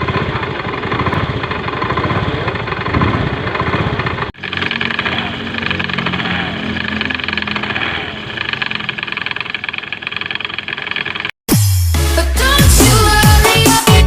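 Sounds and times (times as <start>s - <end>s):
scooter engine running roughly: 0.0s - 11.4s.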